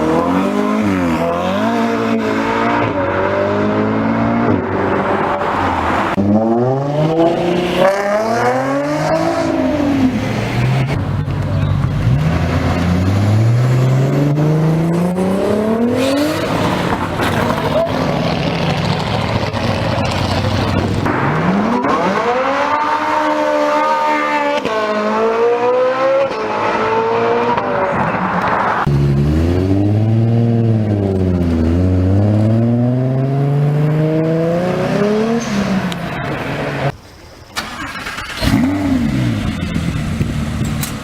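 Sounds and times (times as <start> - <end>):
car engines accelerating hard: 0.0 - 37.0, 37.6 - 41.0.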